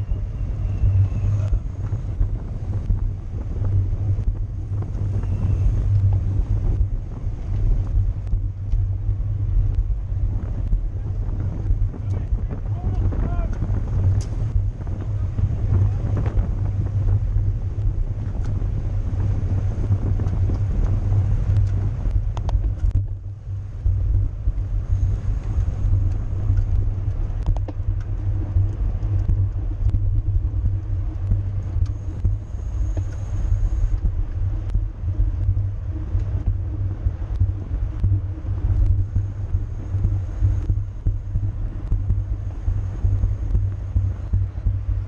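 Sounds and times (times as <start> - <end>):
wind and road noise rumble: 0.0 - 45.0.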